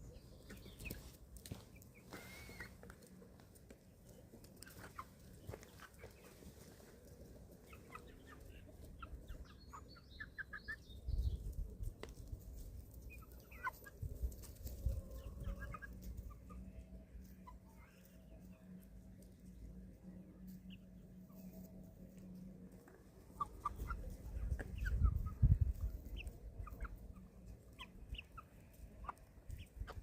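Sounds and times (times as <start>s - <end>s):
young chickens peeping and clucking: 0.0s - 30.0s.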